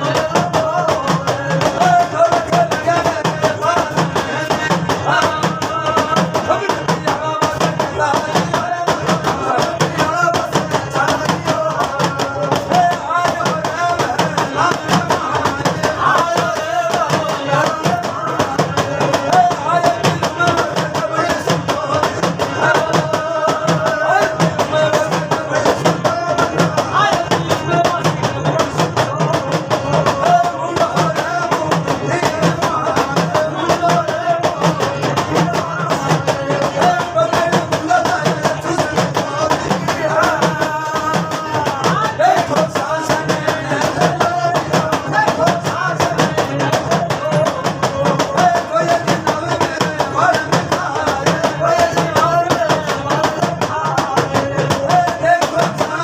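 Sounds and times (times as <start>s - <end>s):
fast percussion strokes: 0.0s - 56.0s.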